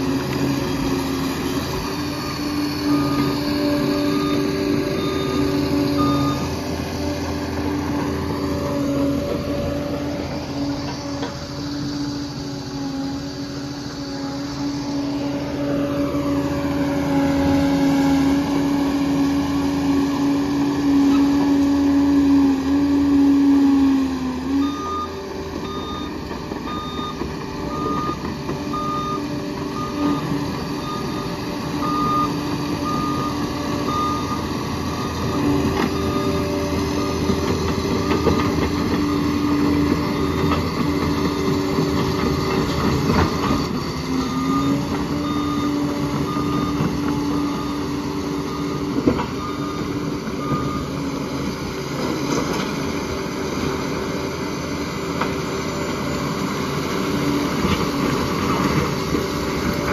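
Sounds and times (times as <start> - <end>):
reversing alarm beeping: 0.0 - 13.8, 14.4 - 53.3
diesel engine under load: 0.0 - 59.9.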